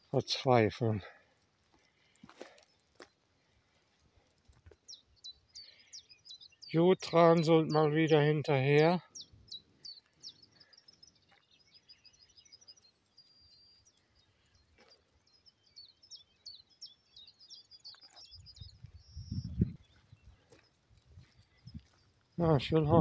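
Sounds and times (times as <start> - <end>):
songbirds chirping and trilling: 0.0 - 23.0.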